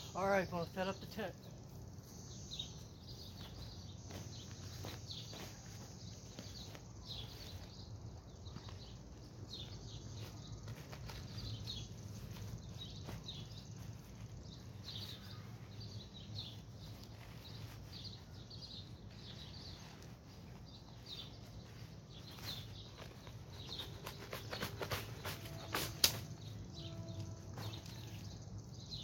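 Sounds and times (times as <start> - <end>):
faint bird chirps: 0.0 - 29.0
rustling of a stuff sack: 0.0 - 29.0.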